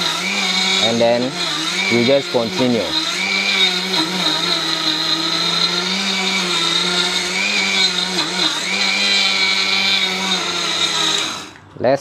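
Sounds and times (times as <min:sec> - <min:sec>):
electric grinder motor grinding beans: 0:00.0 - 0:11.6.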